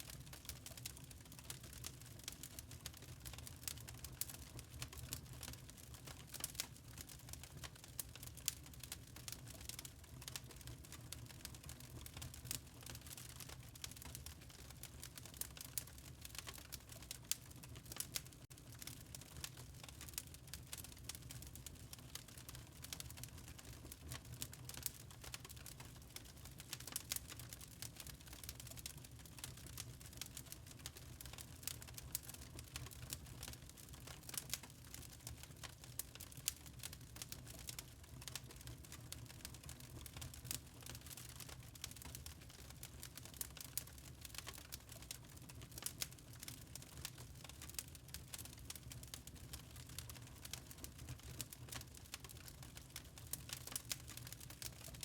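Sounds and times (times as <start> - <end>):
low steady fire rumble: 0.0 - 55.0
wood fire crackling: 0.0 - 55.0.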